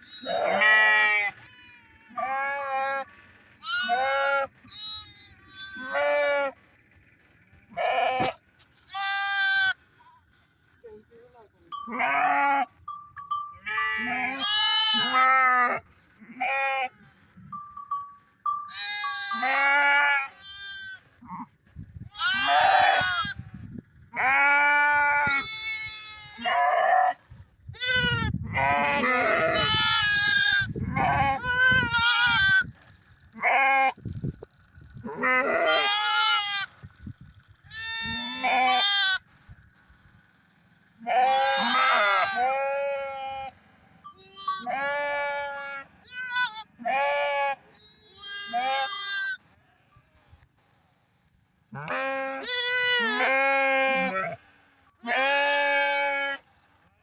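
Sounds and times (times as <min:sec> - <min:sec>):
sheep bleating: 0:00.0 - 0:06.7, 0:07.5 - 0:10.2, 0:11.7 - 0:27.2, 0:27.8 - 0:34.0, 0:35.0 - 0:36.8, 0:37.7 - 0:39.3, 0:41.0 - 0:50.0, 0:51.7 - 0:56.4.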